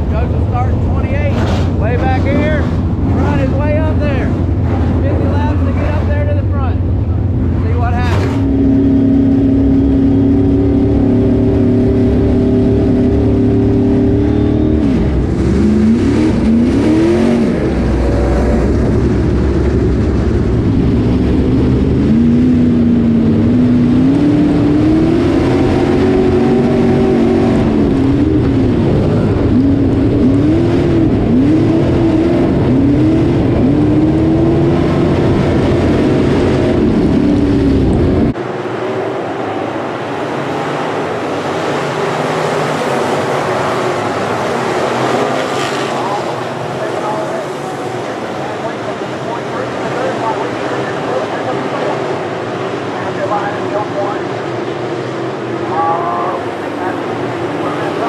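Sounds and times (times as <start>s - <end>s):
distant pack of race cars: 0.0s - 58.0s
race car engine revving: 0.0s - 58.0s.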